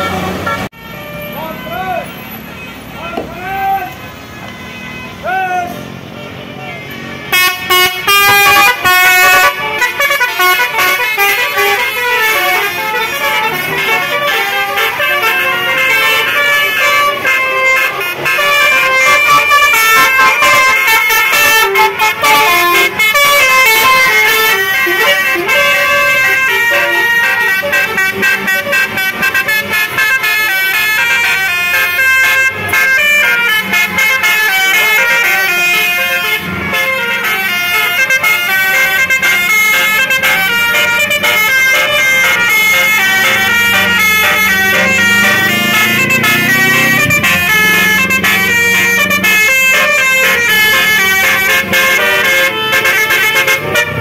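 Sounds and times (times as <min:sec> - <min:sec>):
multi-tone bus air horns: 0:00.0 - 0:54.0.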